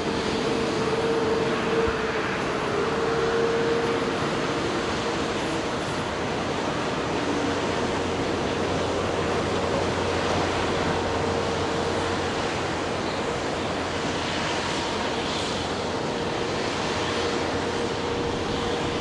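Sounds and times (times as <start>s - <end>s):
jet engine rushing: 0.0s - 19.0s.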